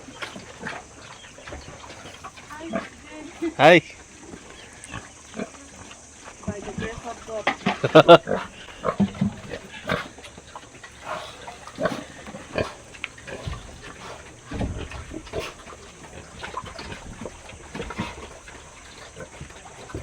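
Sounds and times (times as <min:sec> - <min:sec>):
pigs grunting: 0:00.0 - 0:20.0.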